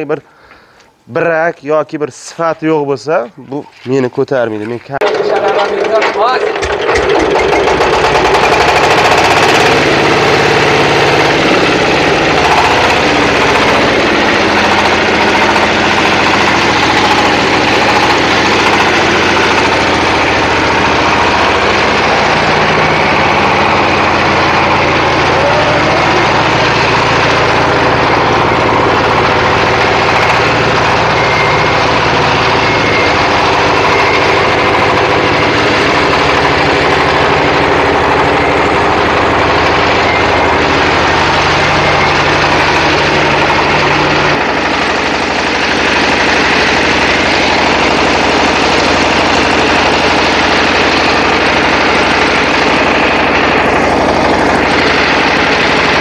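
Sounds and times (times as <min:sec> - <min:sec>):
diesel engine running: 0:05.0 - 0:56.0.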